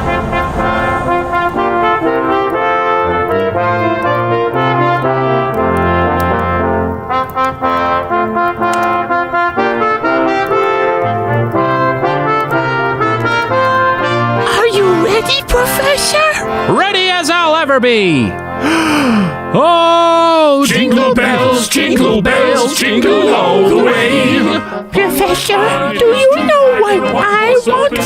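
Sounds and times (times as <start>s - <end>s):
brass ensemble music: 0.0s - 28.0s.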